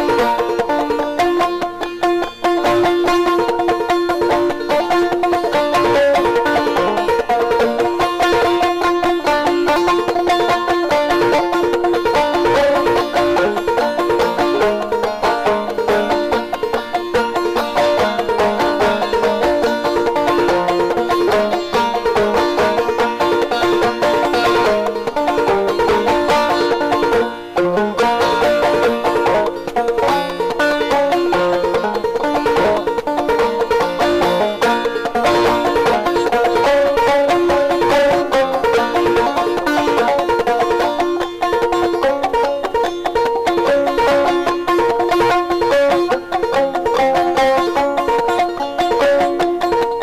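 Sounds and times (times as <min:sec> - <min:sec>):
bluegrass banjo music: 0:00.0 - 0:50.0.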